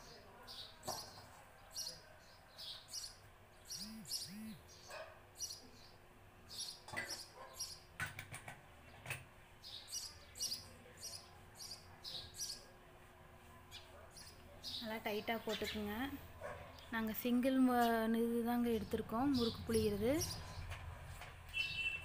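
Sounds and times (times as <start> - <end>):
small birds chirping: 0.0 - 7.9, 8.8 - 12.8, 13.5 - 20.9, 21.5 - 22.0.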